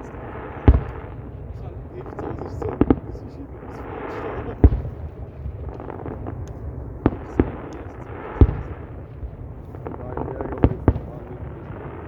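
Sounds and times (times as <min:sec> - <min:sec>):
background hiss: 0:00.0 - 0:12.0
fireworks bursting: 0:00.0 - 0:12.0.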